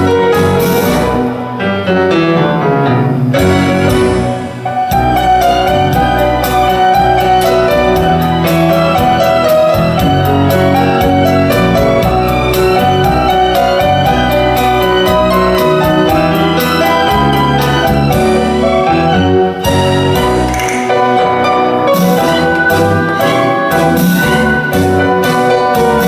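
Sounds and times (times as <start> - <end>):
piano-led music with quick beat: 0.0 - 26.0.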